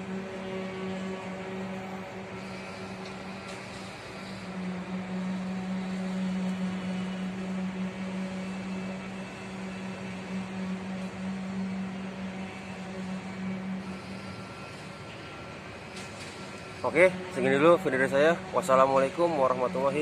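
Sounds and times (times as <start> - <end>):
construction site noise: 0.0 - 20.0
machine hum: 0.0 - 20.0.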